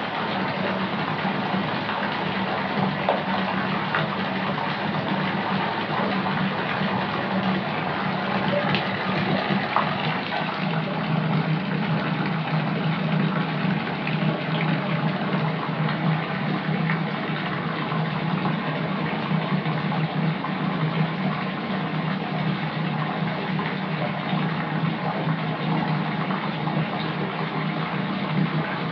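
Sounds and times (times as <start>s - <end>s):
tap water pouring into bathtub: 0.0s - 28.9s.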